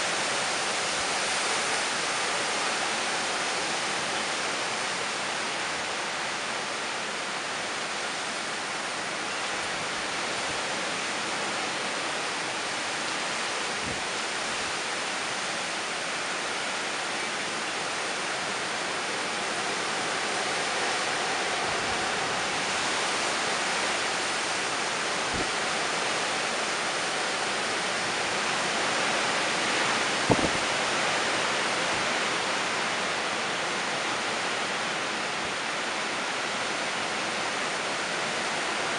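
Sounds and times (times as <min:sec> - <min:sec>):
hurricane wind and heavy rain: 0:00.0 - 0:38.9.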